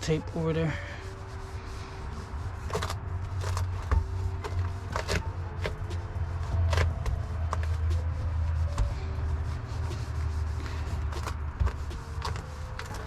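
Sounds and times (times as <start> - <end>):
material and tape rustling: 0.0 - 13.0
steady low hum: 0.0 - 13.0.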